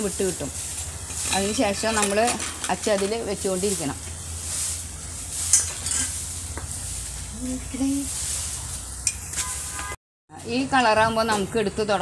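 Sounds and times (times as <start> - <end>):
batter sizzling in hot oil: 0.0 - 9.9.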